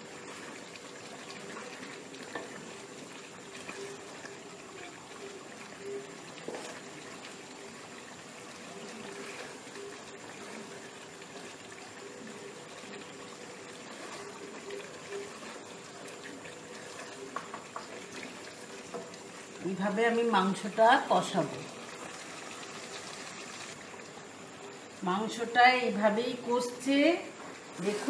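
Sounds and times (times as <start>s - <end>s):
meat bubbling and sizzling in a pan: 0.0s - 25.0s.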